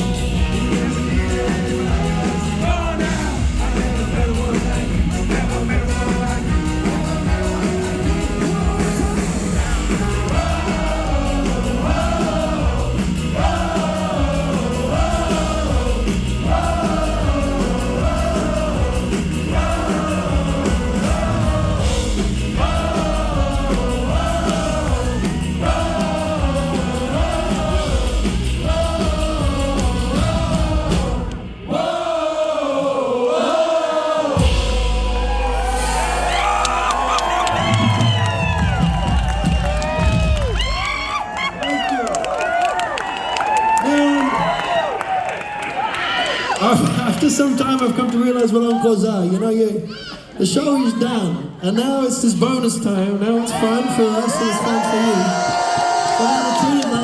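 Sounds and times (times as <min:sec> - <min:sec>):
live band music with singing: 0:00.0 - 0:45.0, 0:46.2 - 0:57.0.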